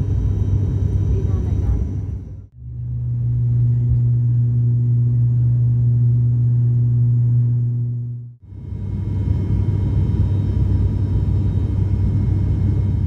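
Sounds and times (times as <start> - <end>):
turboprop propeller drone: 0.0 - 13.0.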